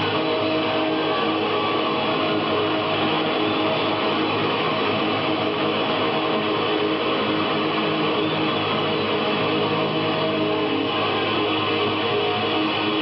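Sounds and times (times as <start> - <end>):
distorted electric guitars: 0.0 - 13.0.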